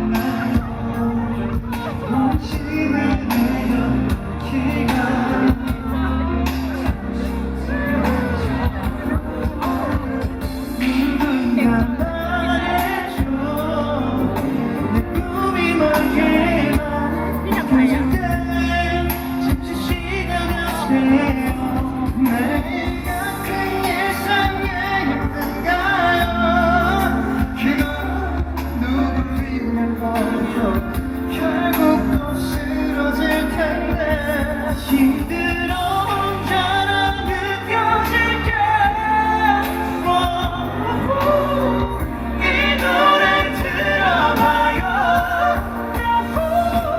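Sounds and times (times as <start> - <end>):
live pop music with singing: 0.0 - 46.9.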